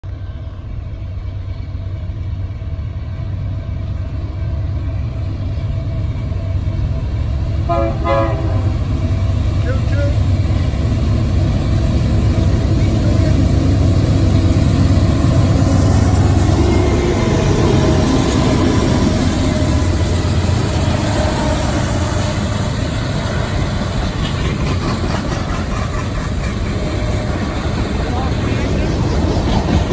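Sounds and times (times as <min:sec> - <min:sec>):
diesel locomotive engine drone: 0:00.0 - 0:29.9
freight cars rumbling on rails: 0:00.0 - 0:29.9.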